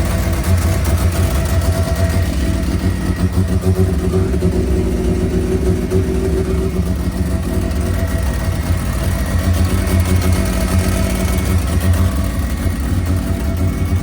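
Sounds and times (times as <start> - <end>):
rotary engine idling: 0.0 - 14.0.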